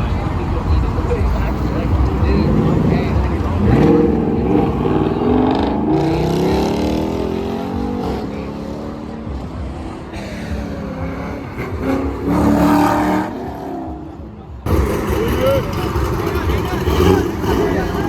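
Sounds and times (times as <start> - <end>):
car engine revving past: 0.8 - 18.0.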